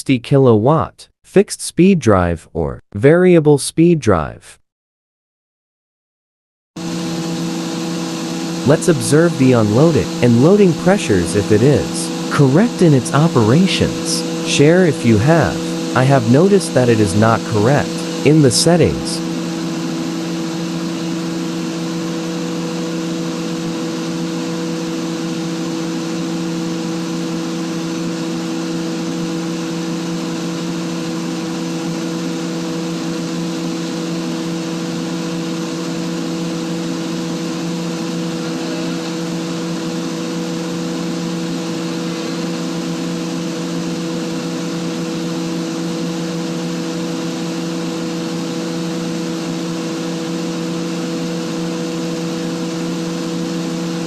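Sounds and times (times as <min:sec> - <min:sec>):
air compressor humming: 0:06.8 - 0:54.0.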